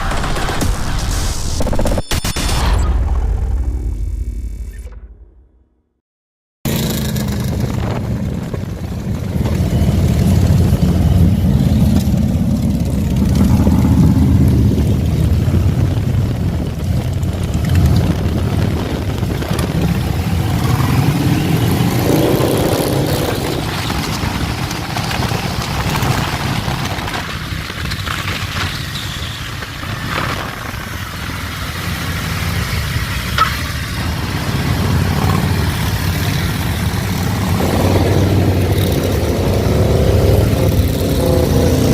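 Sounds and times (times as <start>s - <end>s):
motorcycle engines running: 6.7s - 41.9s.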